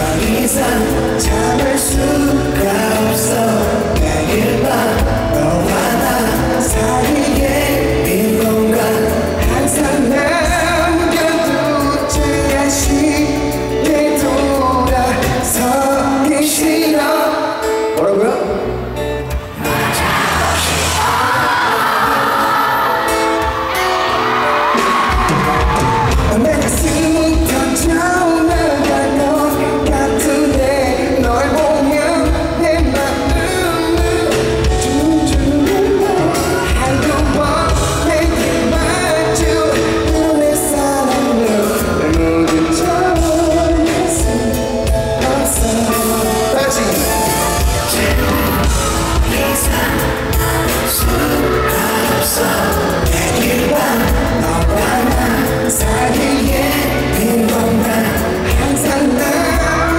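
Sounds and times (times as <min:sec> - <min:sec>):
live pop band with low beat: 0:00.0 - 0:59.9
person singing: 0:00.0 - 0:59.9.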